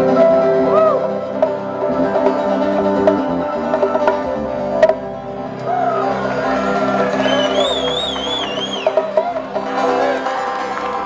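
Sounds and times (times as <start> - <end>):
acoustic guitar: 0.0 - 11.0
drum kit: 0.0 - 11.0
electric bass: 0.0 - 11.0.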